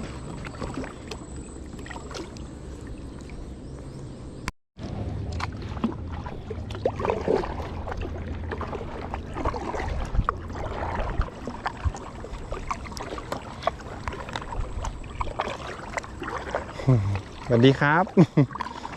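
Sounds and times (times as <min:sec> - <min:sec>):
kayak paddle splashing in water: 0:00.0 - 0:03.4, 0:05.2 - 0:18.9.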